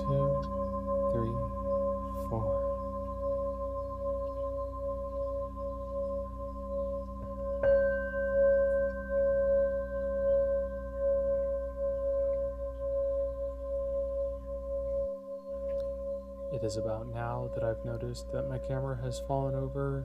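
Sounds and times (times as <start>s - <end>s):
singing bowl strike: 0.0s - 19.6s
singing bowl ringing: 0.0s - 20.0s.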